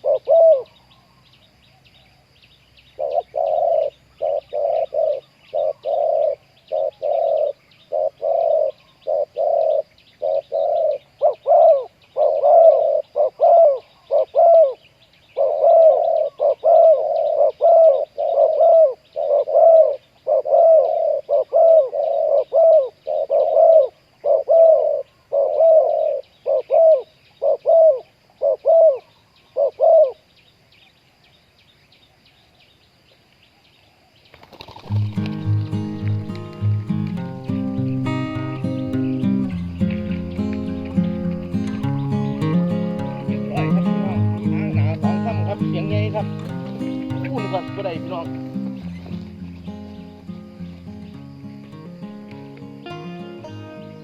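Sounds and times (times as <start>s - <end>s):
dove cooing: 0.0s - 0.8s, 3.0s - 14.8s, 15.4s - 30.2s, 34.4s - 52.2s.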